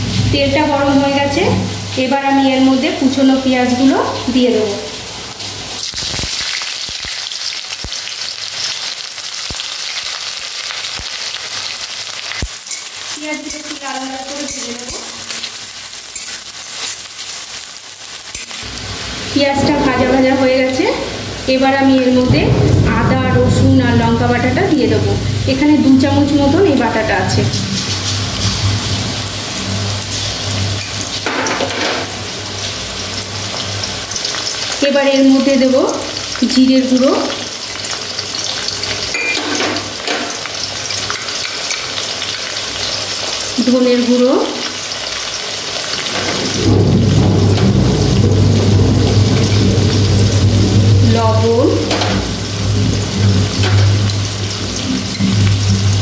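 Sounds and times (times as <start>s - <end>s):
onions sizzling in oil: 0.0s - 56.0s.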